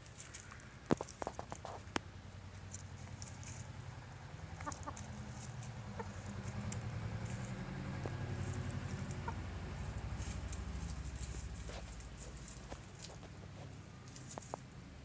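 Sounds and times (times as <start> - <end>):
rustling dry leaves: 0.0 - 15.0.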